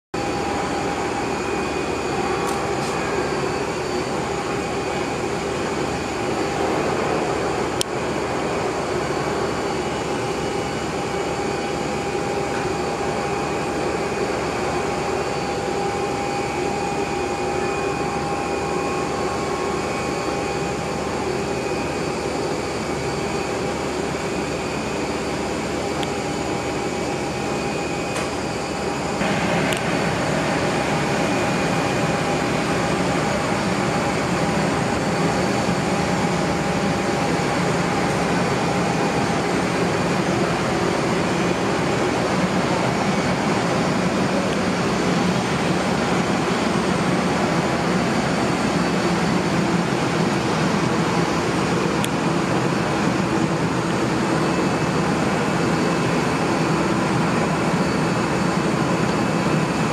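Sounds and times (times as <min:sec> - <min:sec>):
jet engines running: 0:00.2 - 0:59.9.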